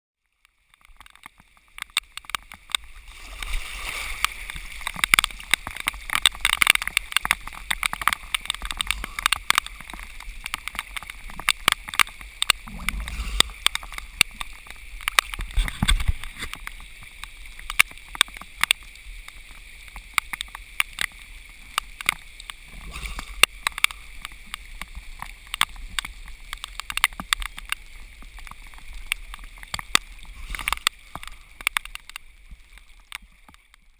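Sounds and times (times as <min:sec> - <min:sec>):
rain ticking on water: 0:00.2 - 0:33.9
water sloshing and gurgling: 0:00.2 - 0:33.9.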